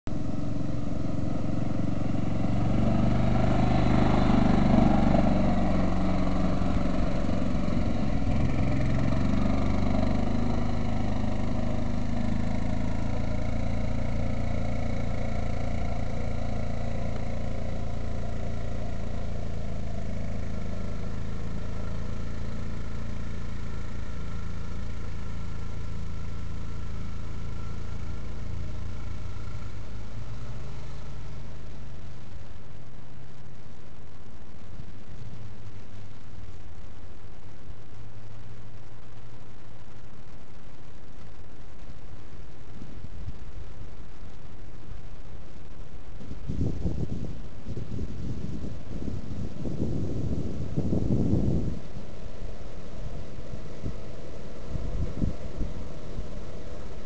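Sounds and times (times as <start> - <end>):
low rumble: 0.0 - 57.0
utility vehicle engine: 0.0 - 57.0.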